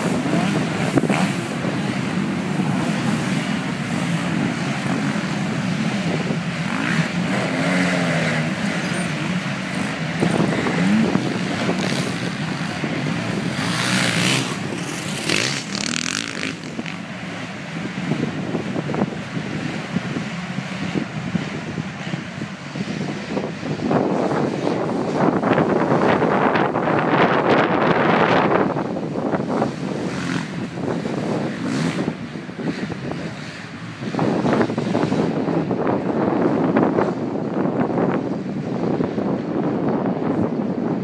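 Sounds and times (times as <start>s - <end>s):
motocross bike engines revving: 0.0s - 37.2s.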